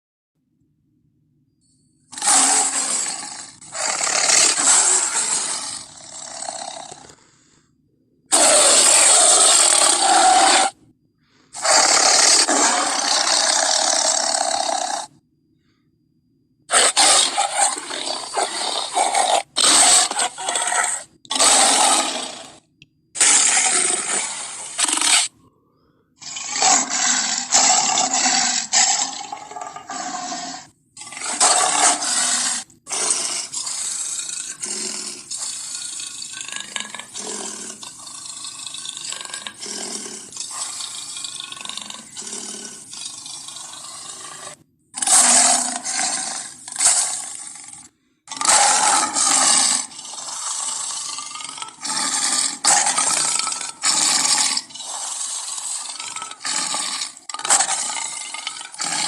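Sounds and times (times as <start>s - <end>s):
big cat roars and growls: 2.1s - 7.6s, 8.3s - 10.8s, 11.5s - 15.2s, 16.7s - 25.4s, 26.2s - 59.0s.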